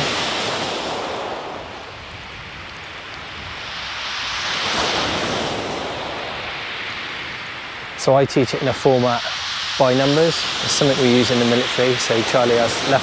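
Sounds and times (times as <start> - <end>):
waves washing over shingle: 0.0 - 13.0.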